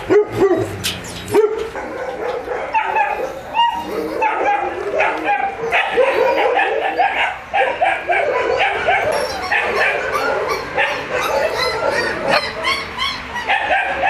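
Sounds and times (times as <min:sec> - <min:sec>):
many dogs barking and yipping: 0:00.0 - 0:14.0.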